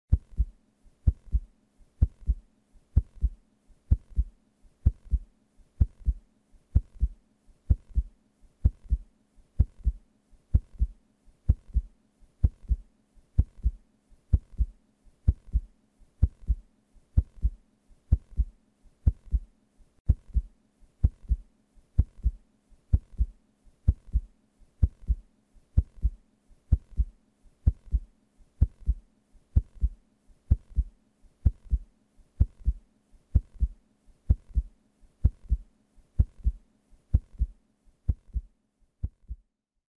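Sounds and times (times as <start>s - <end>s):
heartbeat thumps: 0.1s - 2.4s, 3.0s - 16.6s, 17.2s - 19.5s, 20.1s - 25.2s, 25.8s - 29.0s, 29.6s - 39.4s.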